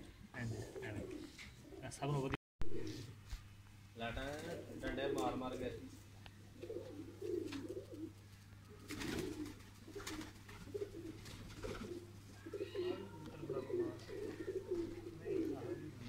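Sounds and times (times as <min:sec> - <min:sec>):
pigeons cooing: 0:00.0 - 0:01.9, 0:02.7 - 0:03.2, 0:04.3 - 0:16.0.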